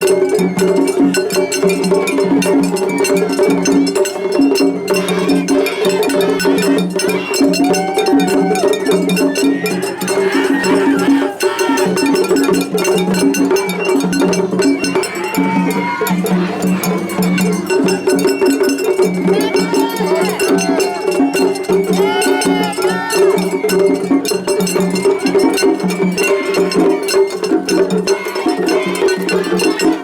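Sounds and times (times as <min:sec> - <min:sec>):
festival drums: 0:00.0 - 0:30.0.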